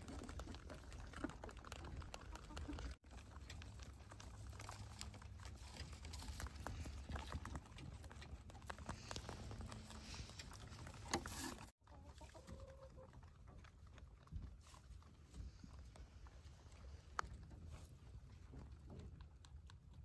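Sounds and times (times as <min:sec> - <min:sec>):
rabbit chewing hay: 0:00.0 - 0:20.0.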